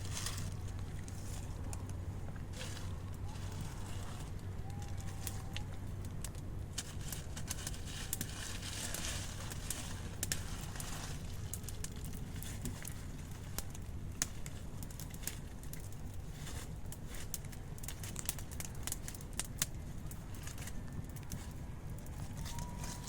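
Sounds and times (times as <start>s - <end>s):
low steady rumble: 0.0s - 23.0s
sharp crackles and clicks: 0.0s - 23.0s.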